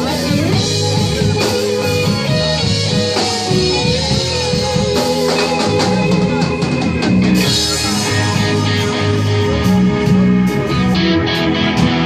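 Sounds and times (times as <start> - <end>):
drum and cymbal hits: 0.0 - 10.9
bass guitar: 0.0 - 12.0
electric guitars: 0.0 - 12.0.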